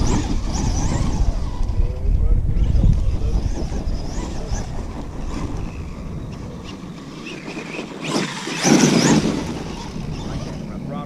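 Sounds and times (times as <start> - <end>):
electric rc truck running: 0.0 - 11.0.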